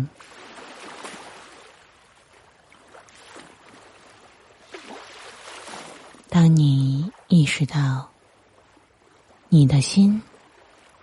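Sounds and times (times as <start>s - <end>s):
ocean waves washing in: 0.0s - 11.0s.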